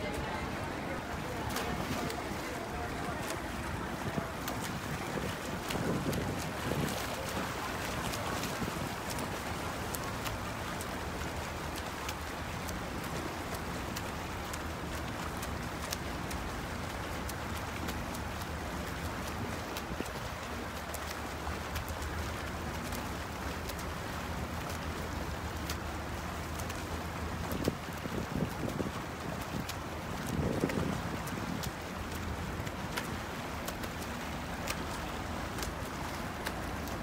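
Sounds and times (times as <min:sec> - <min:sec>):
swimmers splashing in a pool: 0:00.0 - 0:37.0.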